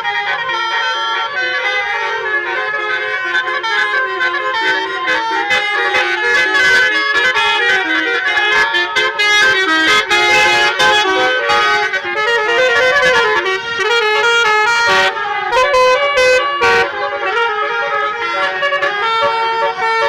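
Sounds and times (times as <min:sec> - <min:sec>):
musical bus horn playing a tune: 0:00.0 - 0:20.0.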